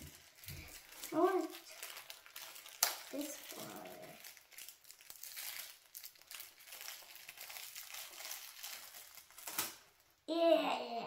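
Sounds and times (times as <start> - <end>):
plastic wrapper crinkling: 0.0 - 10.2.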